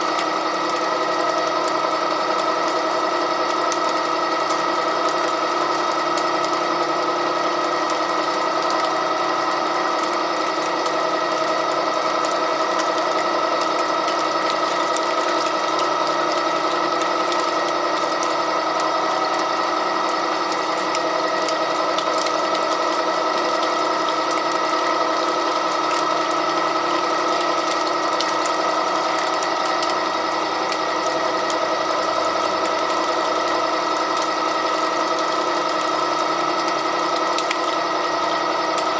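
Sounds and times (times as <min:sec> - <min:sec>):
gear whine: 0:00.0 - 0:38.9
pipe threading machine running: 0:00.0 - 0:38.9.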